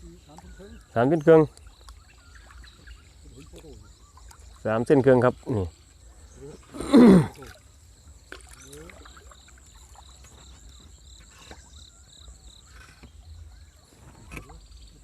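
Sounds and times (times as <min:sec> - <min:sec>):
insects trilling: 0:00.0 - 0:15.0
water sloshing and dribbling: 0:00.0 - 0:15.0.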